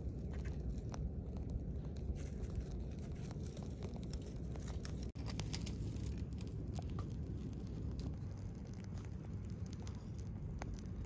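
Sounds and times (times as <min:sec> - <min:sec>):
low rumble: 0:00.0 - 0:11.0
twigs crackling in fire: 0:00.0 - 0:11.0.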